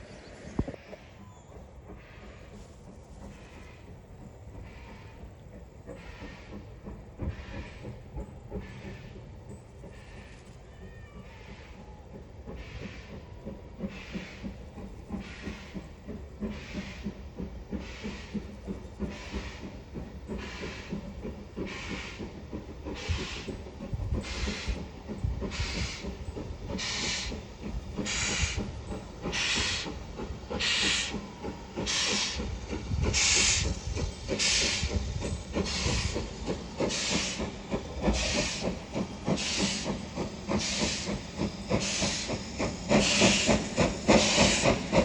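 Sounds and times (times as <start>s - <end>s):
low train rumble: 0.0s - 45.0s
steam locomotive exhaust chuffs: 0.3s - 45.0s.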